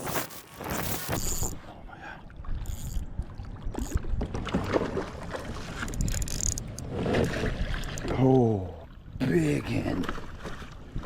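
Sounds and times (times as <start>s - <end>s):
water moving against boat: 0.4s - 11.0s.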